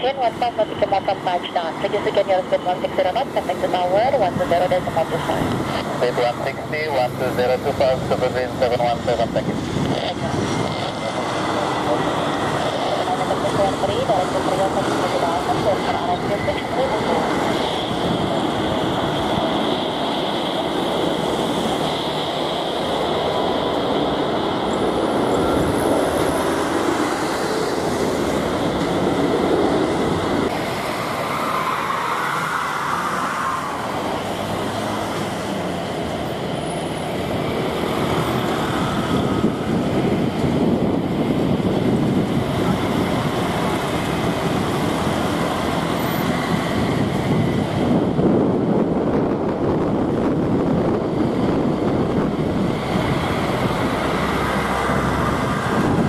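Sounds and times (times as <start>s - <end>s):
high jet engine whine: 0.0s - 56.0s
jet engines rumbling: 0.0s - 56.0s.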